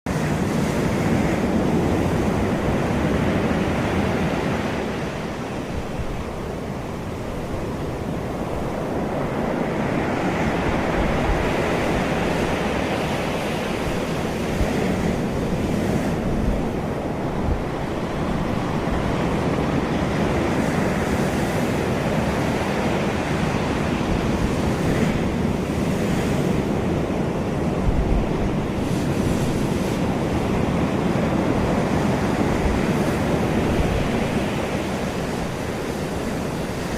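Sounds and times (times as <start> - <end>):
wind buffeting microphone: 0.1 - 36.9.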